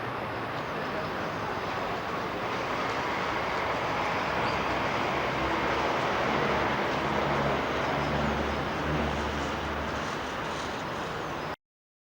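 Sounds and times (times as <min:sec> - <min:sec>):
road noise: 0:00.0 - 0:11.6.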